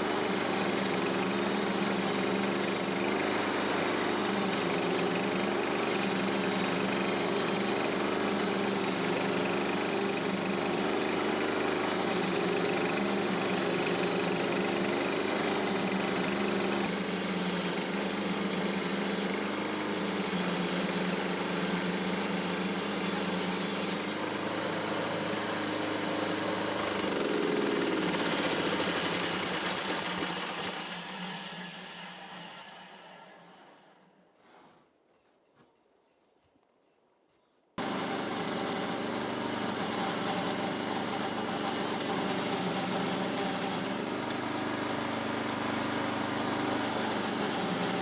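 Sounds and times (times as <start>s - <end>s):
small gasoline engine running: 0.0s - 33.8s, 37.8s - 48.0s.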